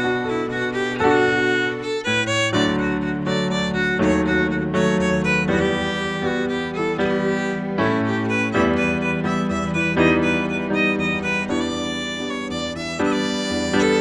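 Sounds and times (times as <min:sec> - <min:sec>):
bowed fiddle: 0:00.0 - 0:14.0
digital piano: 0:00.0 - 0:14.0.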